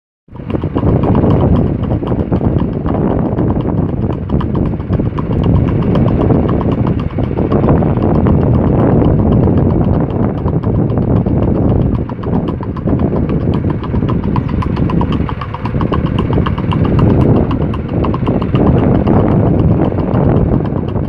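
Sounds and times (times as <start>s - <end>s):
hoofbeats on asphalt: 0.3s - 21.0s
vehicle engine and road noise: 0.3s - 21.0s.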